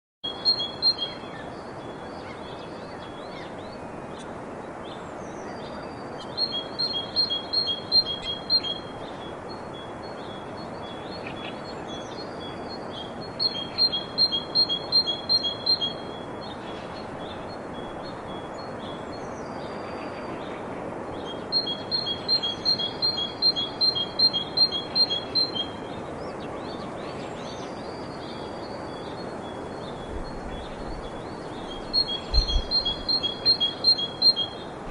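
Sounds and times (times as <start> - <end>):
steady background hiss: 0.2 - 34.9.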